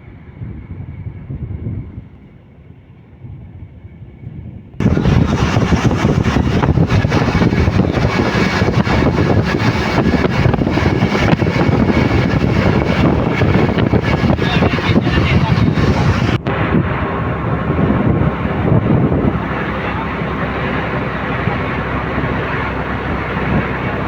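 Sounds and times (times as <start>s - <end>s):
moving vehicle noise: 0.0s - 24.0s
wind buffeting microphone: 0.0s - 24.0s.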